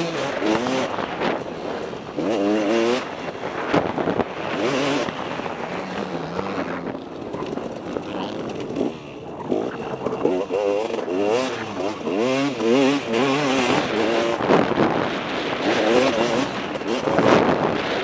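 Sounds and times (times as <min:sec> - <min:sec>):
motocross engine revving: 0:00.0 - 0:18.0
wind over microphone: 0:00.0 - 0:18.0.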